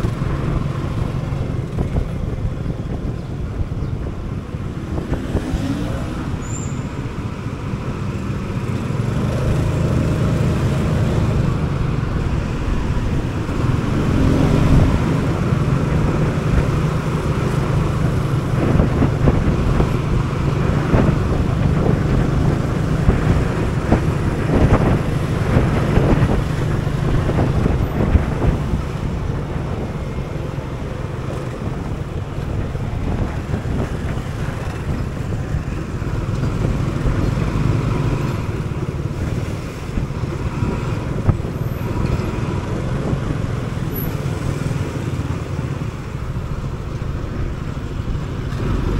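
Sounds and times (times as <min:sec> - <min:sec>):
traffic noise: 0:00.0 - 0:48.9.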